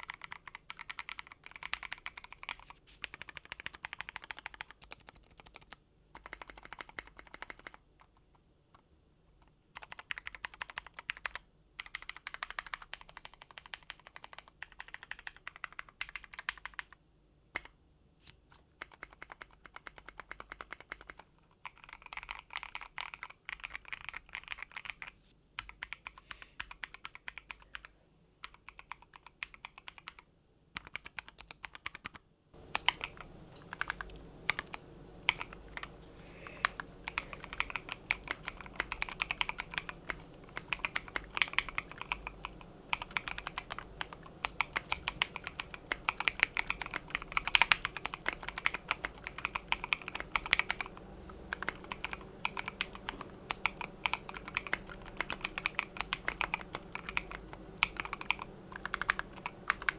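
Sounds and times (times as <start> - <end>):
typing on mechanical keyboard: 0.0 - 8.2, 9.7 - 17.8, 18.5 - 59.9.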